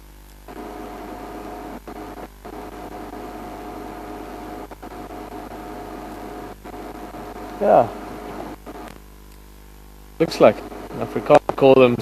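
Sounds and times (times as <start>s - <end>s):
mechanical hum with tones: 0.0s - 12.0s.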